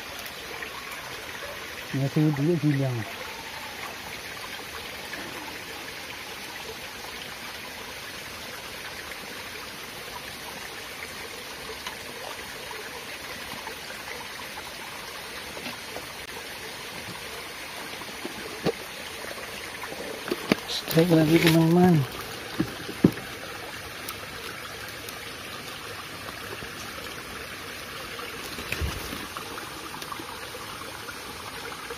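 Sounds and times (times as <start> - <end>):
stream trickling over stones: 0.0 - 31.9.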